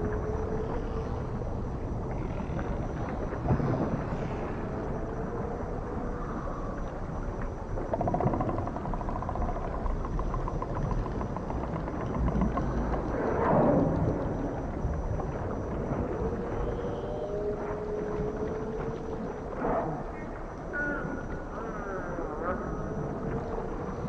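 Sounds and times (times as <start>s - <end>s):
low sea rumble: 0.0s - 24.0s
whale moans underwater: 0.0s - 24.0s.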